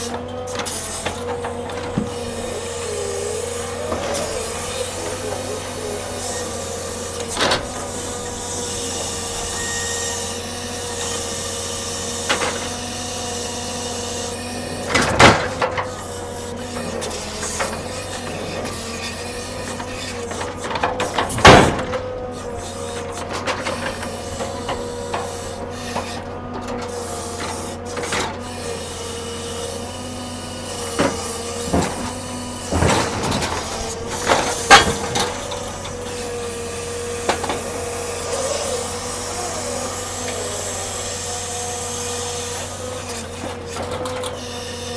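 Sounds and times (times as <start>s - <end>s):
engine-driven mechanical hum: 0.0s - 44.9s
heavy metal and logs clunking: 0.0s - 44.9s.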